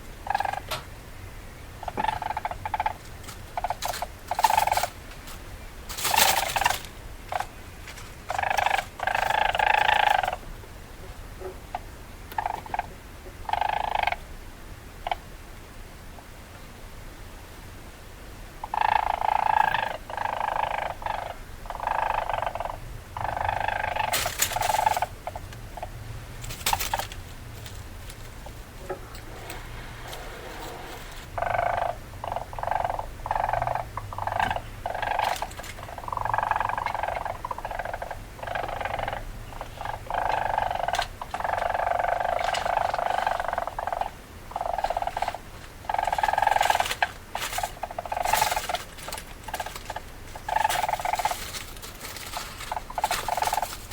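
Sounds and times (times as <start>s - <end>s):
weasel chattering: 0.2s - 0.8s, 1.8s - 5.0s, 5.9s - 7.6s, 8.2s - 10.4s, 11.7s - 14.2s, 18.6s - 53.9s.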